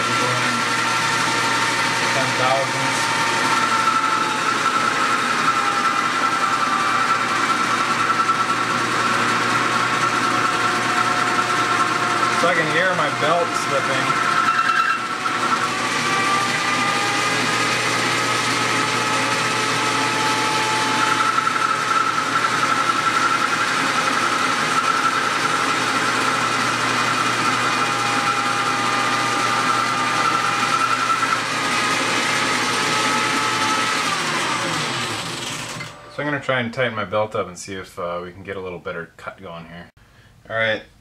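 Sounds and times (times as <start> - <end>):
metal lathe cutting steel: 0.0 - 36.3
slipping drive belt whine: 0.0 - 36.9.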